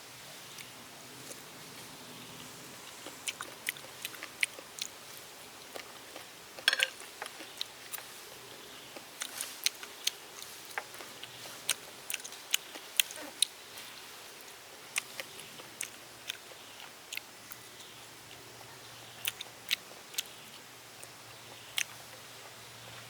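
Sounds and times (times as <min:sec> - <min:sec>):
crunchy chewing: 0:00.5 - 0:23.0.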